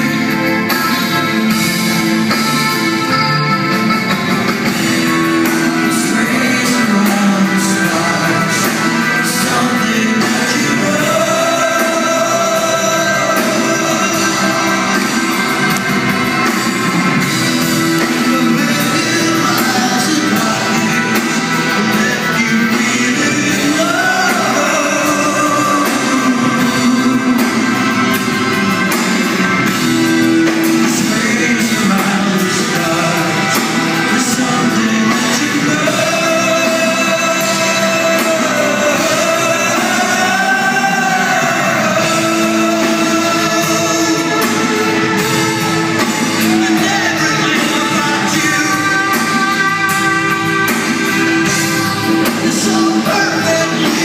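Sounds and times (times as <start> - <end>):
drums: 0.0 - 54.0
electric guitar: 0.0 - 54.0
keyboards: 0.0 - 54.0
person singing: 0.0 - 54.0.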